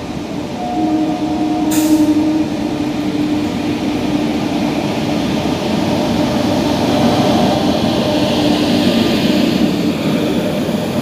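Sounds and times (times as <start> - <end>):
electric locomotive whine: 0.0 - 11.0.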